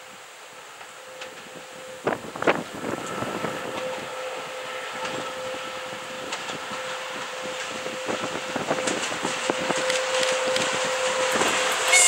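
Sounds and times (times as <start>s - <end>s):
freight train rumble: 0.0s - 12.0s
steady tonal hum: 0.0s - 12.0s.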